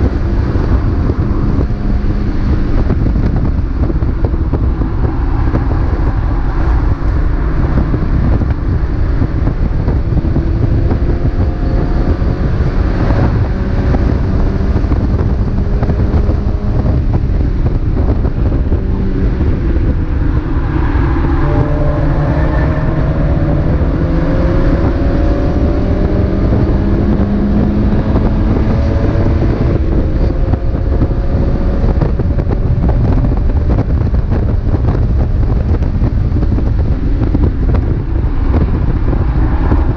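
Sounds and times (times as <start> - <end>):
road and wind rumble: 0.0 - 39.9.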